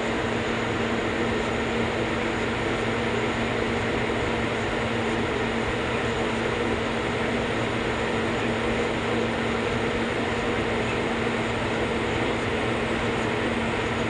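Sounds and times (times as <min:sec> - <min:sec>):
fan noise: 0:00.0 - 0:14.0
refrigeration machine hum: 0:00.0 - 0:14.0.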